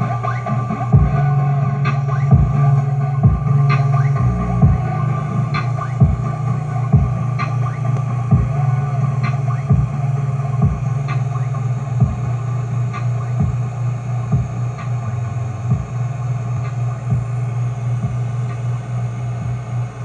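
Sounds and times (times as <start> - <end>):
hip-hop instrumental beat: 0.0 - 20.0.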